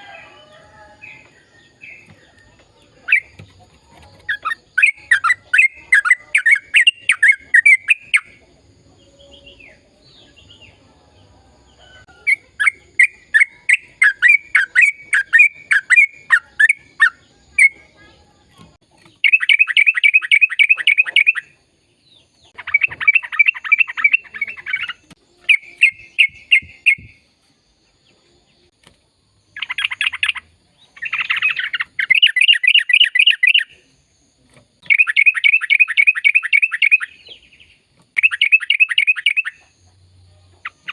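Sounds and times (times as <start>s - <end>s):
bulbul chattering song: 1.0s - 10.9s, 12.1s - 27.3s, 29.4s - 34.1s, 34.8s - 40.9s.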